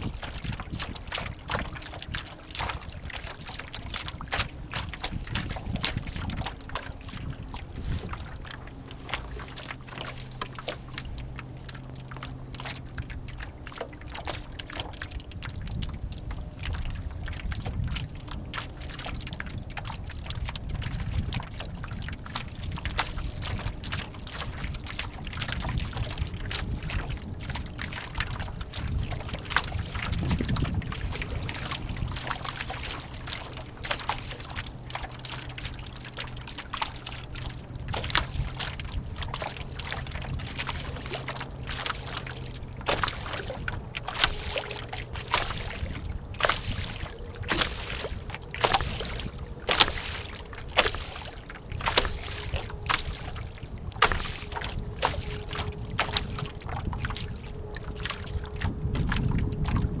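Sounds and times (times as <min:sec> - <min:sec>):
water slapping against a hull: 0:00.0 - 1:00.0
wind rumble on microphone: 0:00.0 - 1:00.0.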